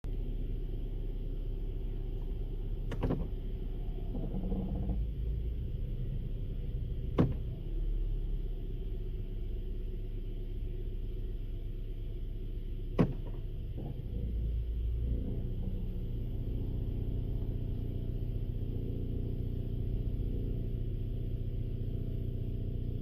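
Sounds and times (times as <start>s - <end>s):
car grinding rumble: 0.0s - 23.0s.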